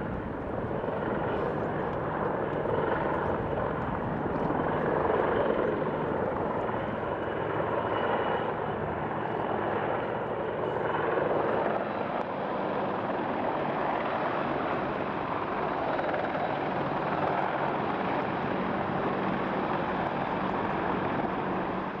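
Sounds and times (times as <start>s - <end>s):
helicopter flying past: 0.0s - 22.0s.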